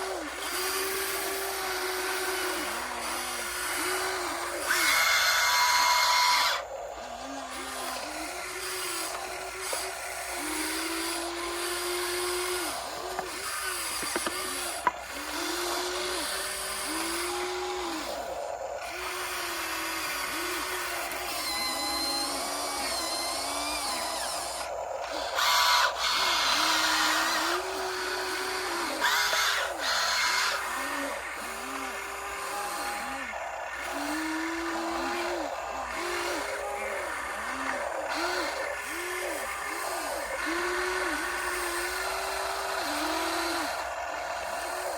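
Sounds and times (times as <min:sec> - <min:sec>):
hydraulic pump motor whining: 0:00.0 - 0:44.9.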